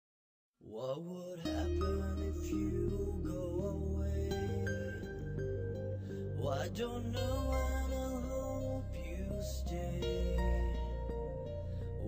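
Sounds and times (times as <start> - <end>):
song music: 1.5 - 12.0
steady bass line: 1.5 - 12.0.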